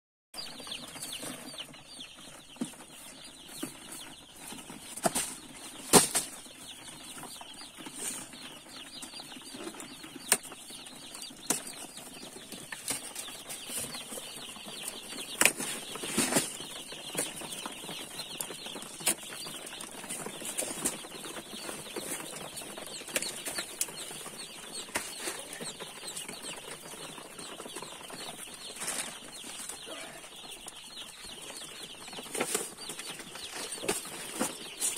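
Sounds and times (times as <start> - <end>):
chicks peeping: 0.4 - 34.9
knocks and rustles: 0.4 - 34.9.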